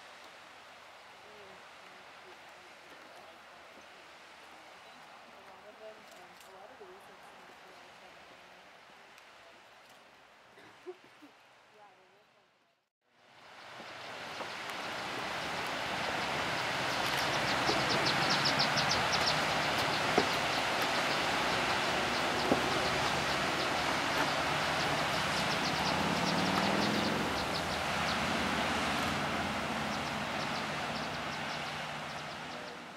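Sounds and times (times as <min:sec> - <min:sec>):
water flowing down terraces: 0:00.0 - 0:12.2, 0:13.2 - 0:32.9.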